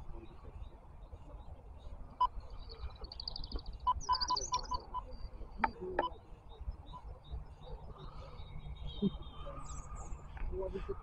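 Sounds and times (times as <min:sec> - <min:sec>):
songbird trilling and chirping: 0:00.0 - 0:10.4.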